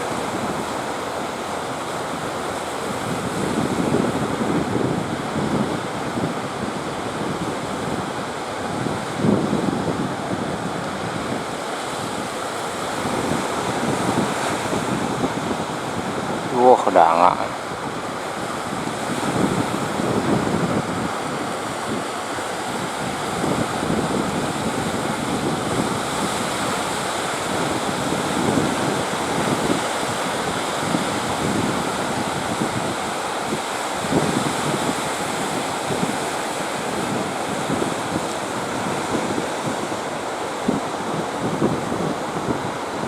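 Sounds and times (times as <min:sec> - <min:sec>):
sea surf: 0:00.0 - 0:43.0
wind buffeting the microphone: 0:00.0 - 0:43.0.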